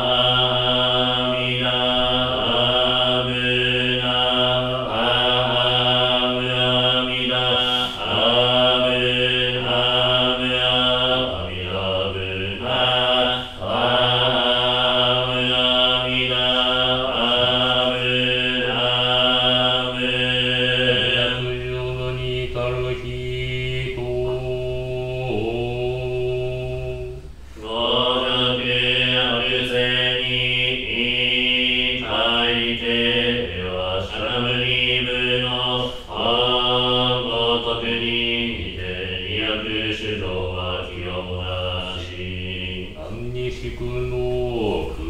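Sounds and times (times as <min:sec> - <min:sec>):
buddhist chanting: 0:00.0 - 0:45.0.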